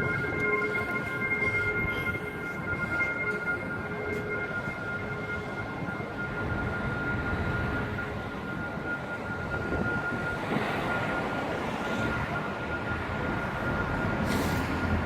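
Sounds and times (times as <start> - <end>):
city rumble: 0.0 - 15.0.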